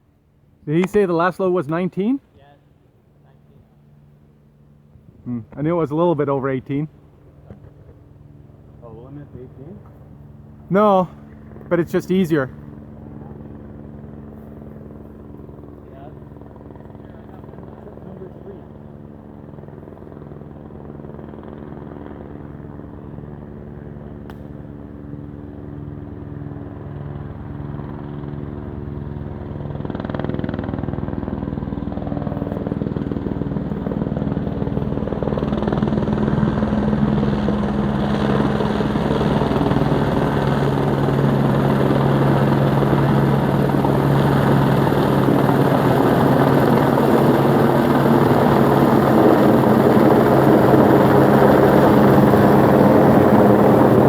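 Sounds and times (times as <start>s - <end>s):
helicopter rotor and engine: 0.0s - 54.0s.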